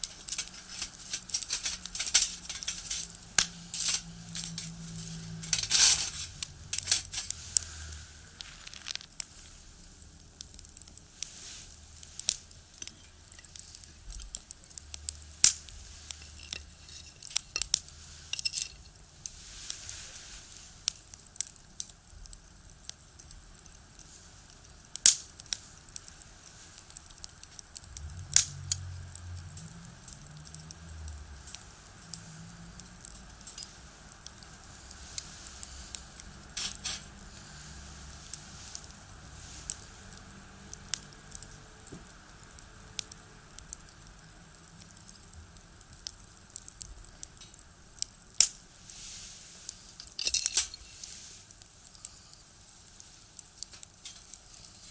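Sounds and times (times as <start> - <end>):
firewood crackling and popping: 0.0 - 54.9.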